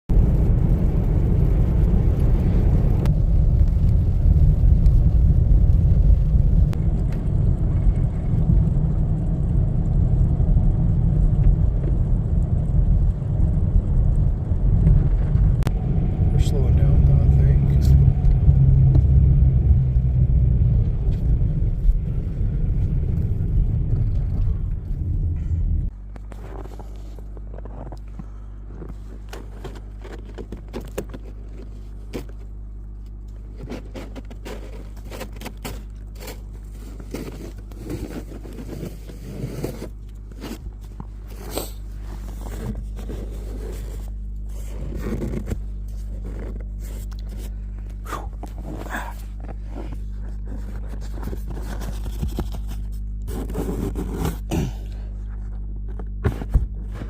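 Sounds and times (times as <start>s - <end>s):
low engine hum: 0.1s - 57.0s
road and engine rumble: 0.1s - 57.0s.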